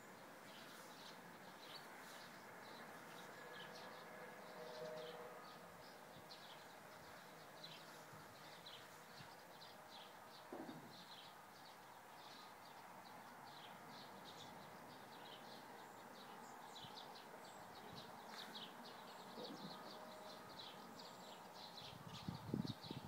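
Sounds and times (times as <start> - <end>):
small birds chirping: 0.0 - 4.1, 5.0 - 23.0.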